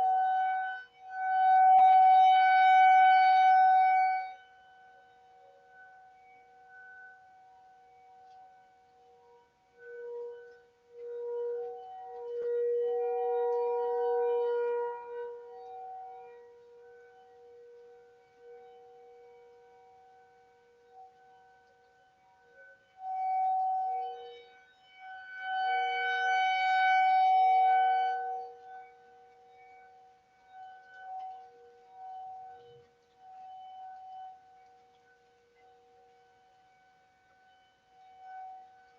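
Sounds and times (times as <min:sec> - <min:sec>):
tornado warning siren steady tone: 0:00.0 - 0:38.9.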